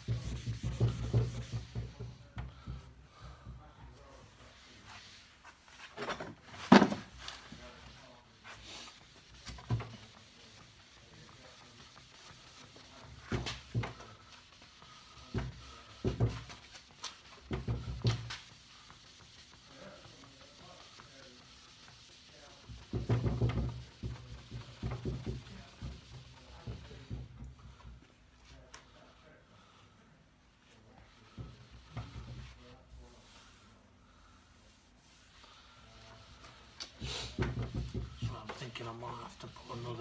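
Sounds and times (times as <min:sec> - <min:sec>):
polishing pad swishing on wood: 0:00.0 - 0:02.4, 0:06.7 - 0:27.9, 0:30.7 - 0:40.0.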